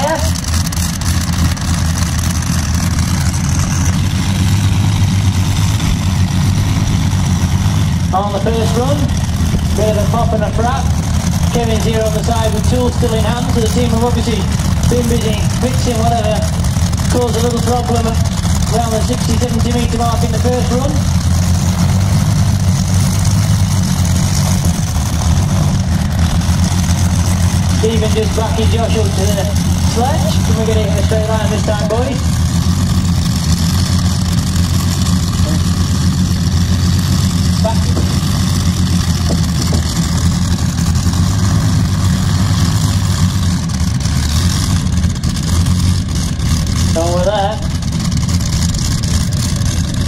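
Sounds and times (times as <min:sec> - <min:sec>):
aero engines idling: 0:00.0 - 0:50.0.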